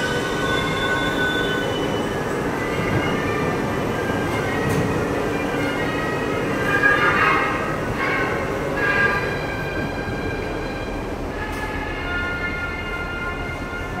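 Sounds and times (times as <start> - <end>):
low train rumble: 0.0 - 14.0.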